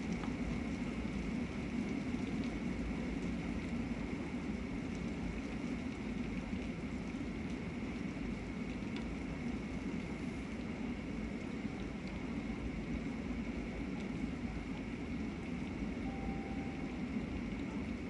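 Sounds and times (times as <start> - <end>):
heavy rain on foliage: 0.0 - 18.0.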